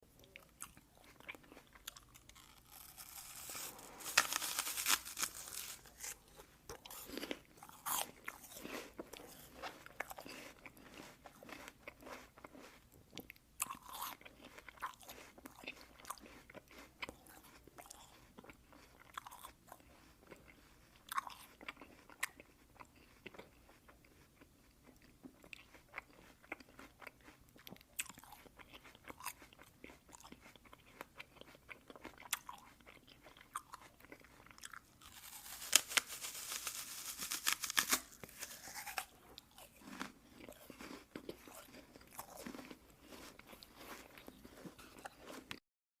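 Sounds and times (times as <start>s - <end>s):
chewing apple crunches: 0.1s - 45.6s
biting into crisp apple: 0.3s - 24.2s, 24.8s - 45.6s.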